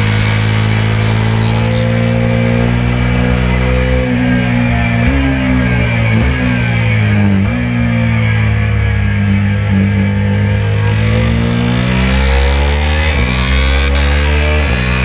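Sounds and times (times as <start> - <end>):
motorcycle engine downshifting: 0.0 - 15.0.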